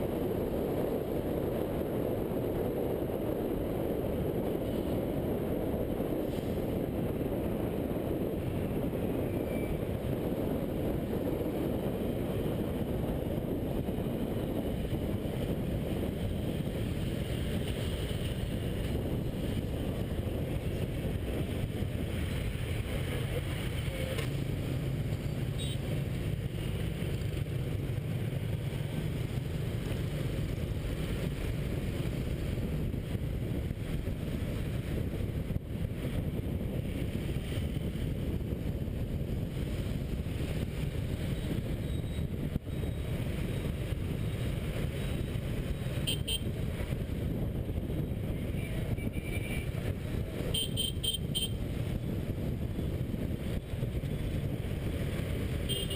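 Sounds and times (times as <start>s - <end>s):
wind on microphone: 0.0s - 55.9s.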